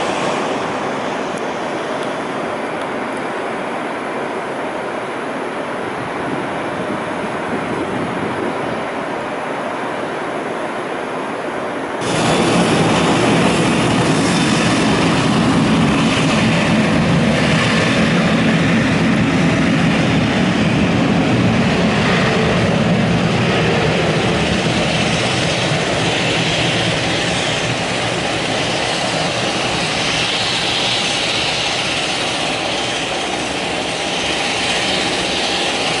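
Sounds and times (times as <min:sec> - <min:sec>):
jet engines at takeoff: 0:00.0 - 0:36.0.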